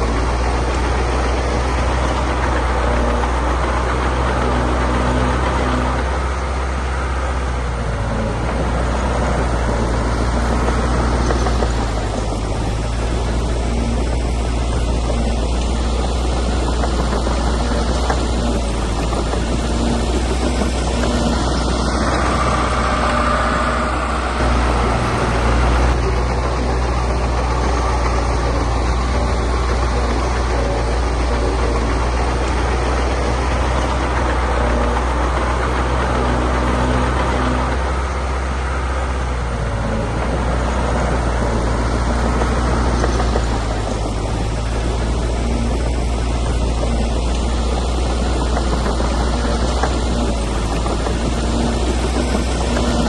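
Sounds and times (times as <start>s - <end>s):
heavy diesel engine droning: 0.0s - 53.0s.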